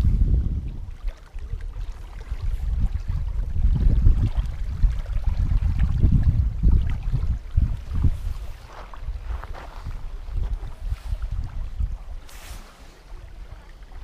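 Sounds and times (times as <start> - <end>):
small waves lapping: 0.0 - 14.0
wind buffeting microphone: 0.0 - 14.0.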